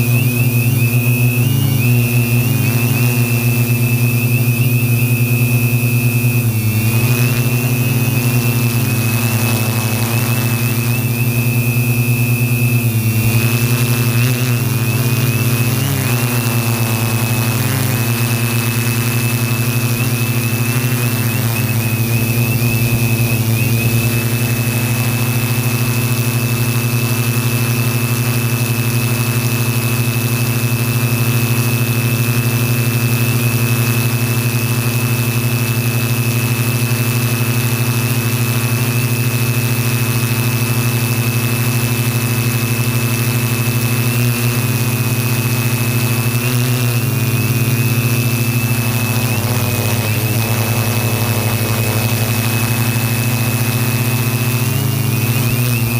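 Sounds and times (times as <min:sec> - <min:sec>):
drone motors and propellers humming: 0:00.0 - 0:55.9.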